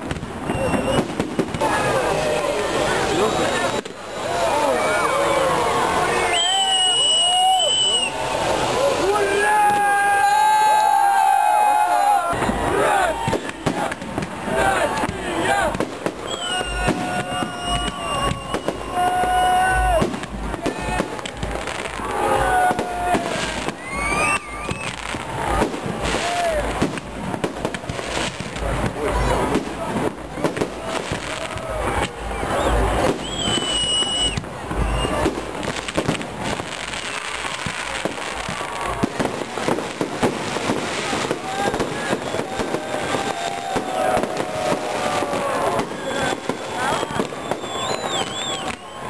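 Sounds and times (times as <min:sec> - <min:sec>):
whistling rockets: 0:00.0 - 0:05.2, 0:06.0 - 0:10.0, 0:12.3 - 0:49.0
fireworks bangs and crackling: 0:00.0 - 0:49.0.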